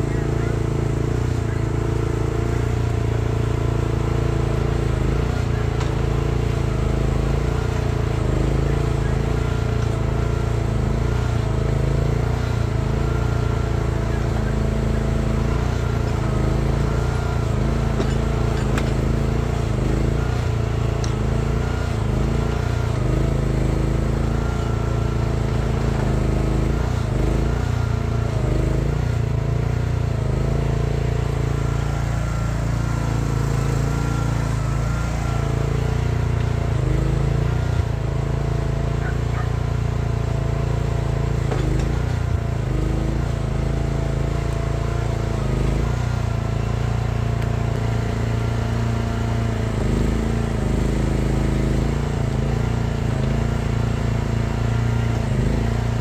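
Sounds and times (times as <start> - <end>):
hydraulic whine: 0.0 - 56.0
mini excavator engine digging: 0.0 - 56.0.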